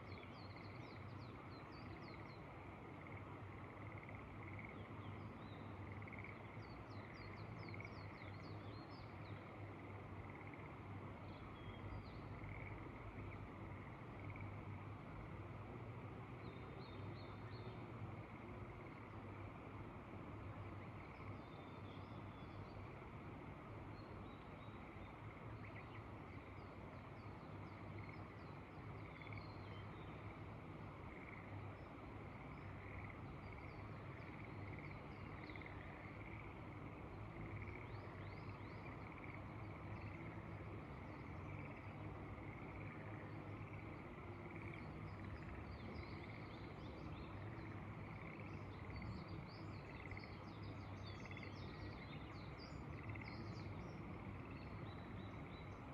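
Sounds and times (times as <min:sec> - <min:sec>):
frogs calling in a trill: 0:00.2 - 0:14.8, 0:24.4 - 0:55.9.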